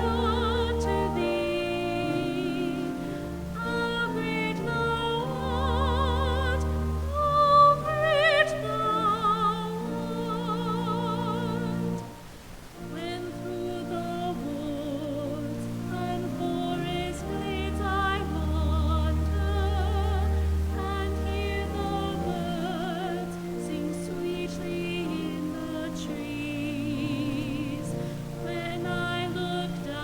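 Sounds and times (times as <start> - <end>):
person singing with vibrato: 0.0 - 30.0
sustained instrumental accompaniment: 0.0 - 30.0.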